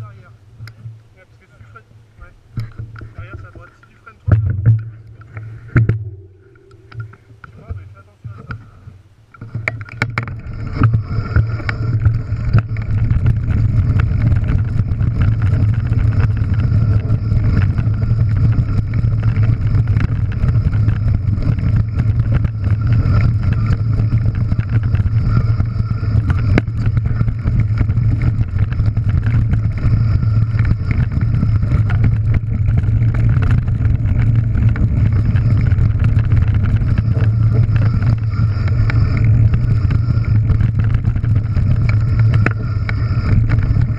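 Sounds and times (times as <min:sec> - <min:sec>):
wind rumble on microphone: 0:00.0 - 0:43.9.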